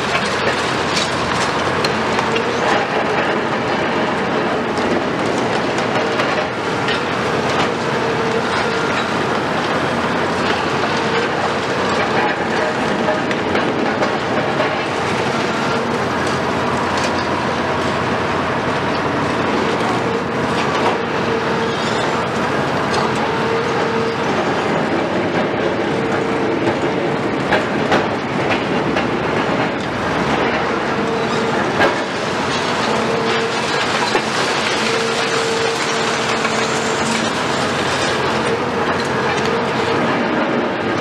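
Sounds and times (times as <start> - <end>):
diesel engine under load: 0.0 - 41.0.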